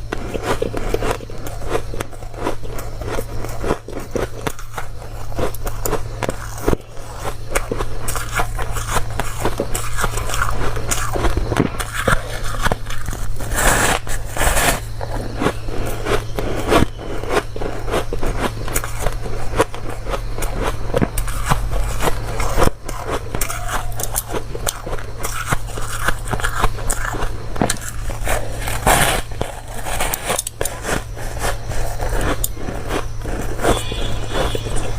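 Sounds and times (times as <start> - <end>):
chewing crunchy ice: 0.0 - 34.9
steady low hum: 0.0 - 34.9.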